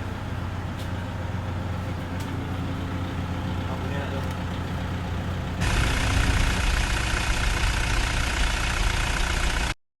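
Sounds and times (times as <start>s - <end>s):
diesel engine idling: 0.0s - 9.8s.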